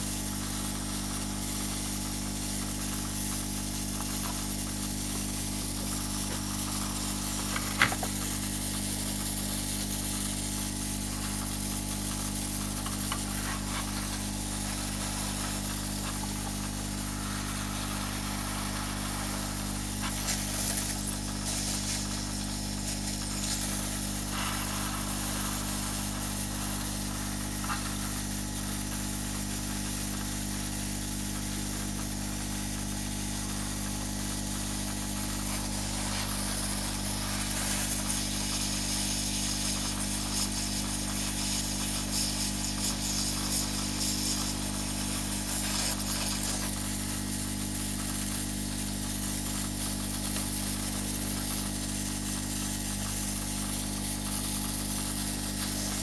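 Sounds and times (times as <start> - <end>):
hot-air gun airflow hiss: 0.0 - 56.0.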